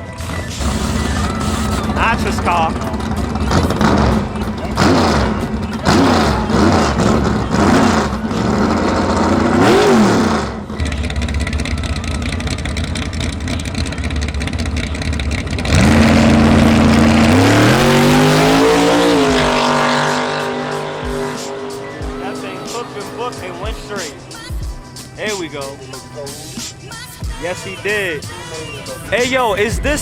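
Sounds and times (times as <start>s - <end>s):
loud car engine accelerating: 0.0s - 29.1s
drag car engines idling and revving: 0.0s - 30.0s.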